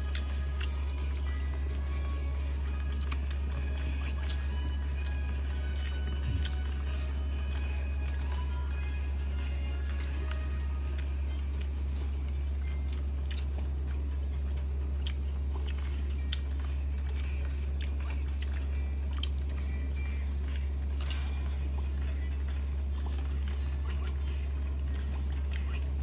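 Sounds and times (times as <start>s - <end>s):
person chewing food: 0.0s - 26.0s
steady low hum: 0.0s - 26.0s.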